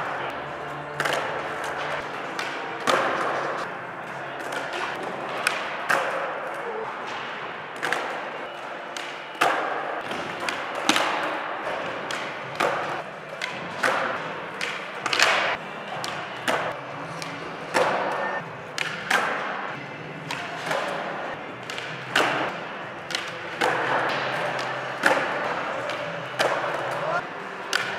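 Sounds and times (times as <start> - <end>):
skateboards clacking and landing: 0.0 - 27.9.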